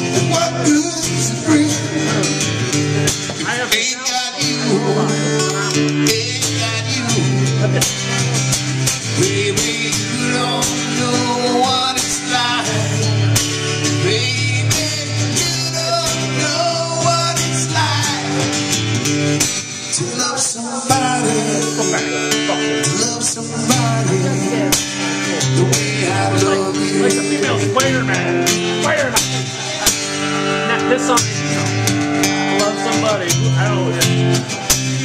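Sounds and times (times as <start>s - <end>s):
man singing into a microphone: 0.0s - 2.7s, 3.3s - 8.4s, 9.0s - 18.8s, 19.8s - 31.3s
acoustic guitar strumming: 0.0s - 35.0s.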